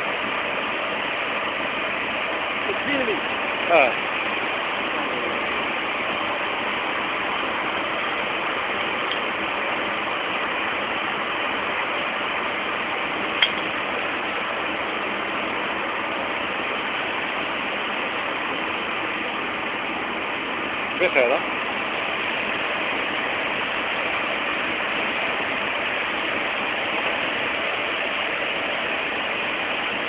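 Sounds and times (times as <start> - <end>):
steady machinery noise: 0.0 - 30.0.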